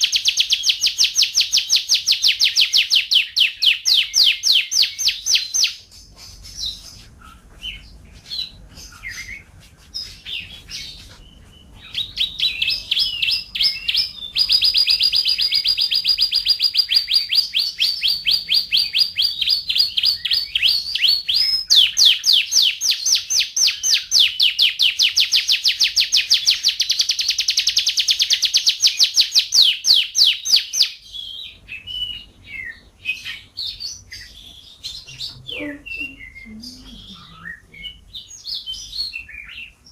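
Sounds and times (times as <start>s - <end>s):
canary chirping and trilling: 0.0s - 39.9s.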